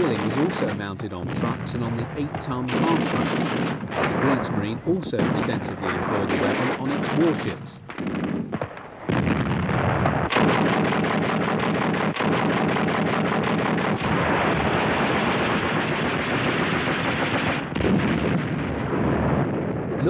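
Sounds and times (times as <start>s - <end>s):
cannon firing rapid bursts: 0.0s - 20.0s.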